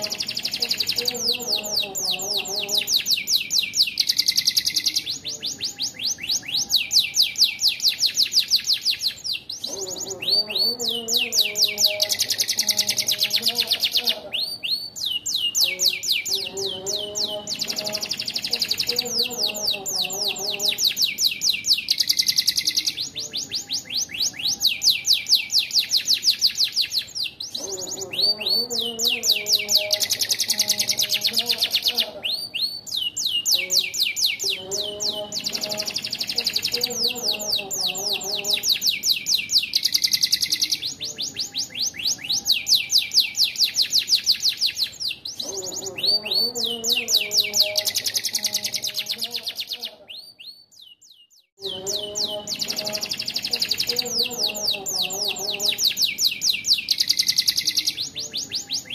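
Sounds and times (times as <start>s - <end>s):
canary singing rapid trills: 0.0s - 58.9s.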